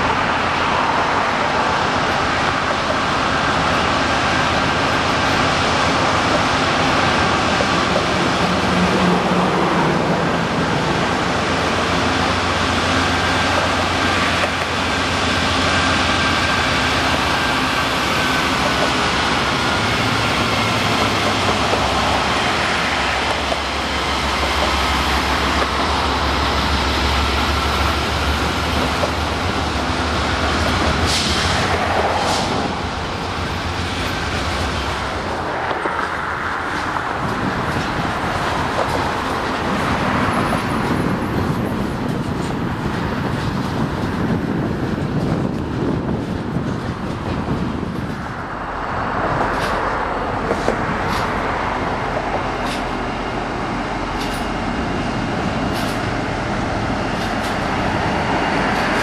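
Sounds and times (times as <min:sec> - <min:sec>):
locomotive engines droning and whining: 0:00.0 - 0:59.0
rolling freight cars: 0:00.0 - 0:59.0.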